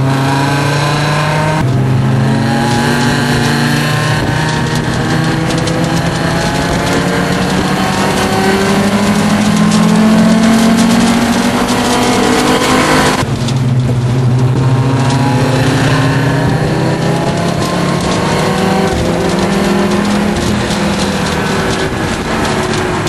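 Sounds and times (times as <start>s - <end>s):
race car engine accelerating: 0.0s - 23.0s
road and wind noise: 0.0s - 23.0s.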